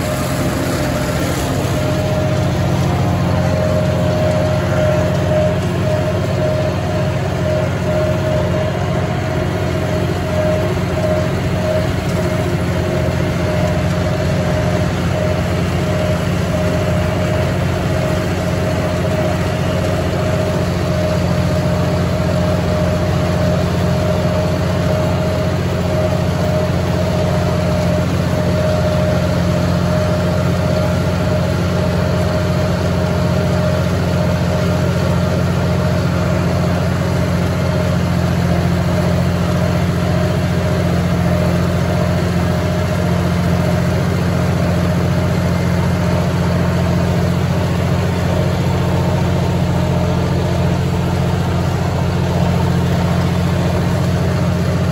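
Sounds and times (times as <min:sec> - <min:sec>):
rotary cutter whine: 0:00.0 - 0:54.9
tractor diesel engine running: 0:00.0 - 0:54.9.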